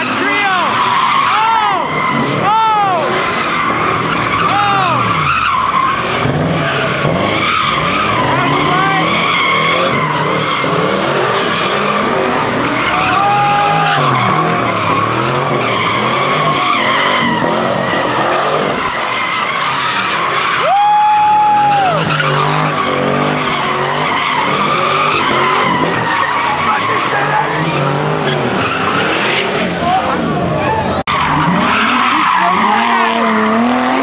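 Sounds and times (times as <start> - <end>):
car engine revving: 0.0 - 34.0
tyres screeching on pavement: 0.0 - 34.0.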